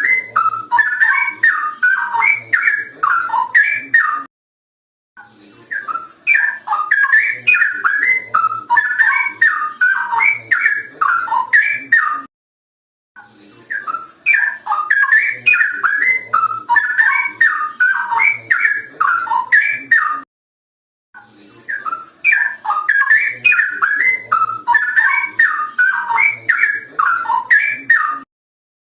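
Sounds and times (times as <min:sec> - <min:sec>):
bird singing whistled notes: 0:00.0 - 0:04.3, 0:05.7 - 0:12.3, 0:13.7 - 0:20.2, 0:21.7 - 0:28.3.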